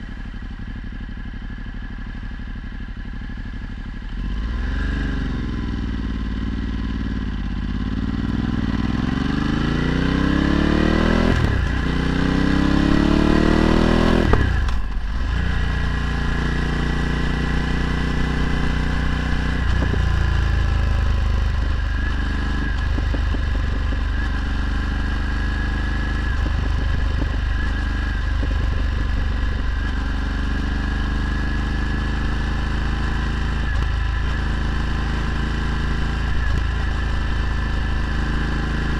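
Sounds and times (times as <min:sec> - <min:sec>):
motorcycle engine revving: 0:02.8 - 0:38.9.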